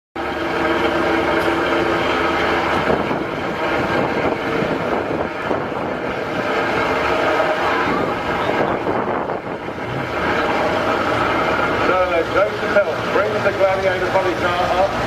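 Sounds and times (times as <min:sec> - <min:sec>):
racing car engine running: 0:00.2 - 0:15.0.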